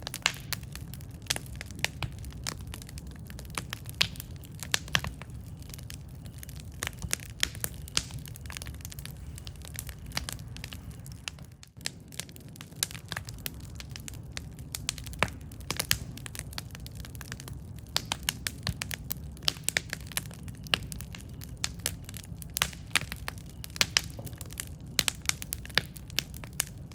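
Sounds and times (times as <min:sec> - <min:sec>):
campfire crackling and popping: 0:00.0 - 0:26.9
low rumble of burning fire: 0:00.0 - 0:26.9.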